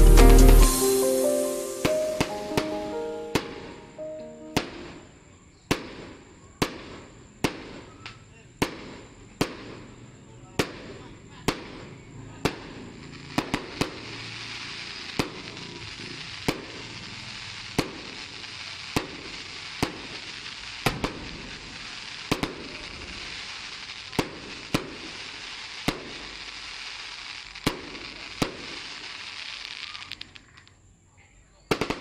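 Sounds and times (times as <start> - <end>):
fireworks bursting with sharp bangs: 0.0 - 30.8, 31.6 - 32.0
continuous hiss: 0.0 - 32.0.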